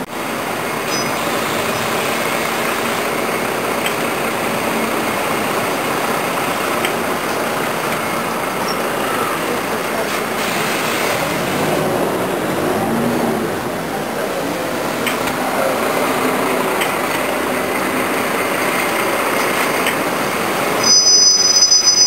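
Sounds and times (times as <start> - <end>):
bus engine: 0.0 - 22.0
motor traffic: 0.0 - 22.0.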